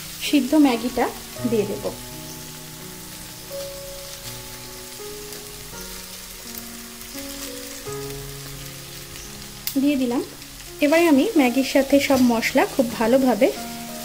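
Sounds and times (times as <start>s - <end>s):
food sizzling in a wok: 0.0s - 14.0s
slow background music: 0.0s - 14.0s.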